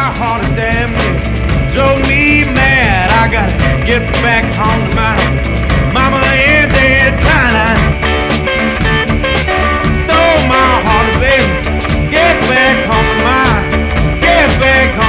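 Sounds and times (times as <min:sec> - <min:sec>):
rock song with male vocals: 0:00.0 - 0:15.0.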